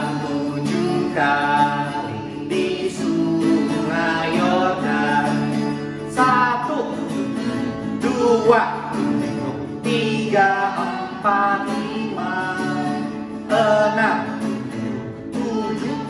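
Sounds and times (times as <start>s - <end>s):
guitar-backed music: 0.0s - 16.0s
man singing: 0.0s - 16.0s.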